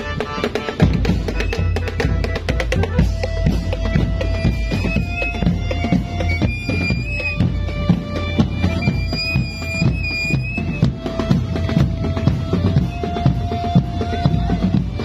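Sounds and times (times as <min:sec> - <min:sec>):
marching drums: 0:00.0 - 0:15.0
wind instrument melody: 0:00.0 - 0:15.0.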